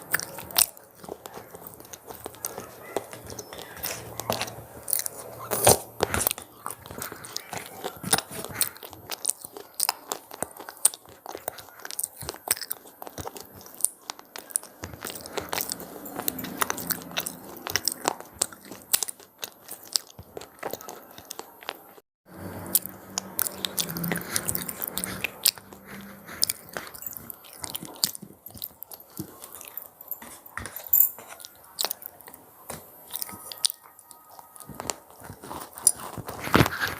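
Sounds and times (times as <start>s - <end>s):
crunchy snack being chewed: 0.0s - 36.9s.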